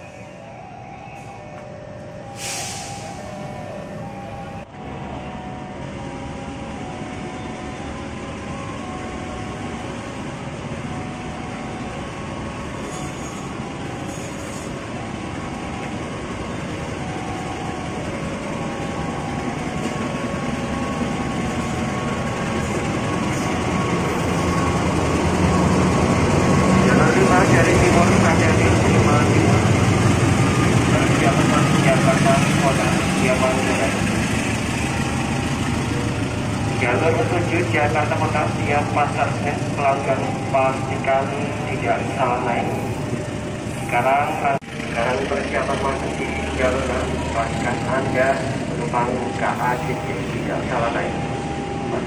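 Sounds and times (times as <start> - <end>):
locomotive engine and wheels rumbling: 0.0 - 52.0.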